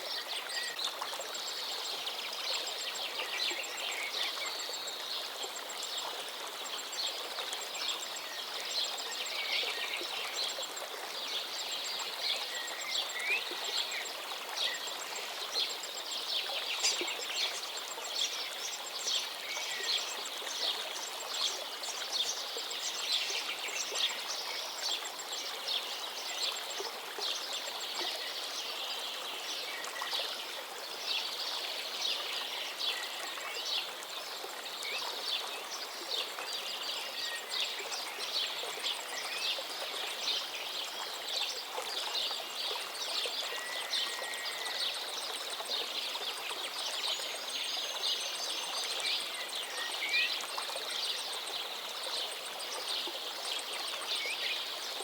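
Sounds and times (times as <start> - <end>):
river water babbling over stones: 0.0 - 55.0.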